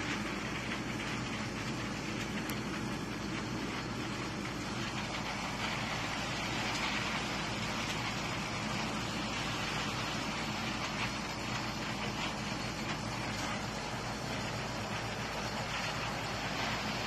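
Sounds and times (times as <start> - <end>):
low rumble with hiss: 0.0 - 17.0.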